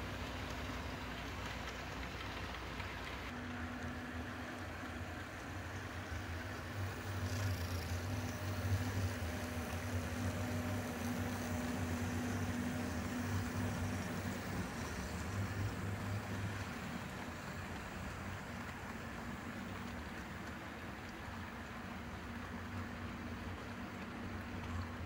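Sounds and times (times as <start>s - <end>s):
model locomotive motors humming: 0.0s - 25.0s
wheels rolling on track: 0.0s - 25.0s.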